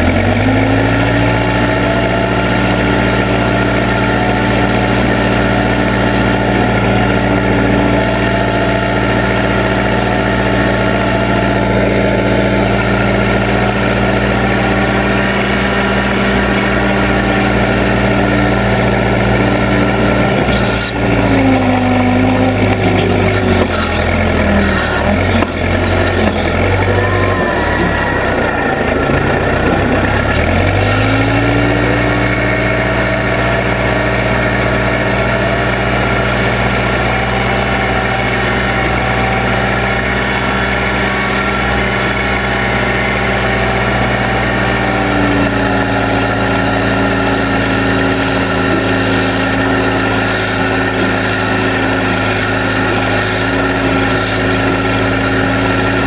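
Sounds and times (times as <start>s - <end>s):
backhoe engine running: 0.0s - 56.0s.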